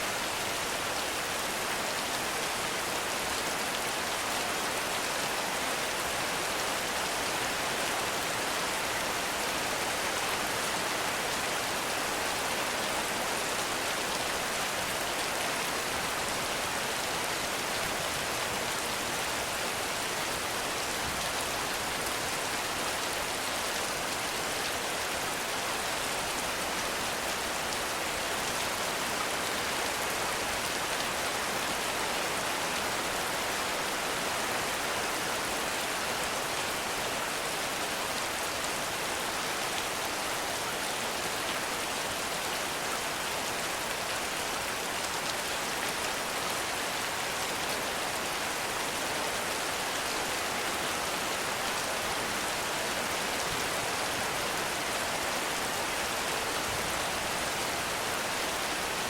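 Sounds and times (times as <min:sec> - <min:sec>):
heavy rain on leaves and ground: 0:00.0 - 0:59.0.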